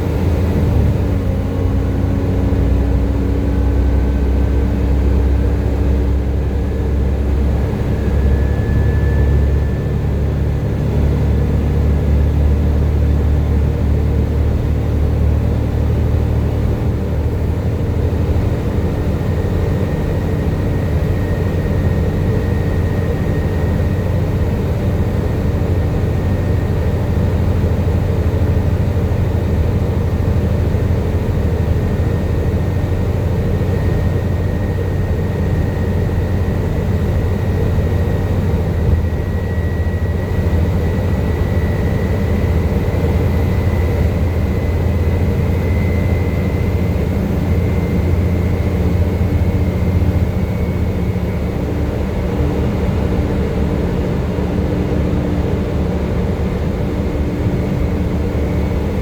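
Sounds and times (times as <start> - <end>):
diesel bus engine droning: 0.0 - 59.0
high-pitched engine whine: 0.0 - 59.0.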